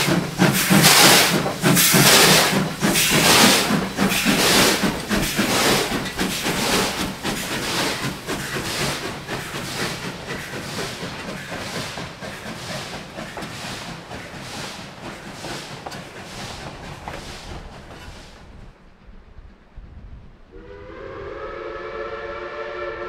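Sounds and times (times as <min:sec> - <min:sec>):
steam hissing: 0:00.0 - 0:18.8
steam locomotive chuffing: 0:00.0 - 0:19.2, 0:20.6 - 0:23.0.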